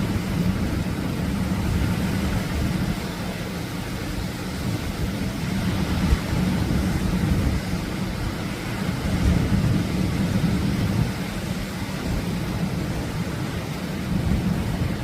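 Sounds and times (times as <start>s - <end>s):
surf rumbling on beach: 0.0s - 15.0s
wind on microphone: 0.0s - 15.0s.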